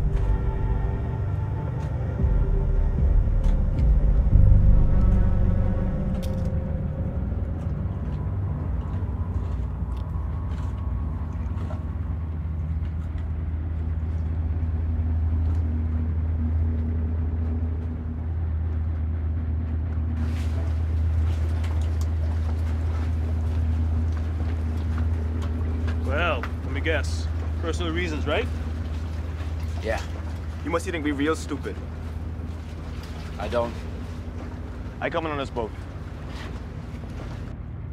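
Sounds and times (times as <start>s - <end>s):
boat engine rumbling: 0.0s - 37.9s.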